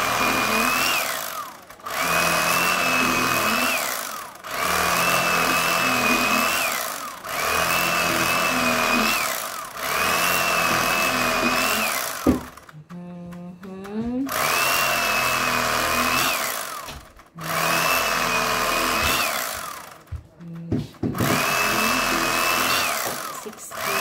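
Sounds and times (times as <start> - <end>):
electric slicer motor whining: 0.0 - 24.0.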